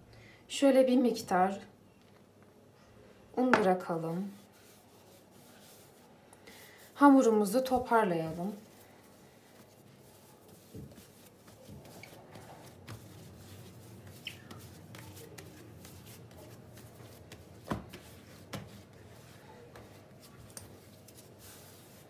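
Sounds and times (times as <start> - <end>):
hands kneading bread dough: 3.5 - 22.0.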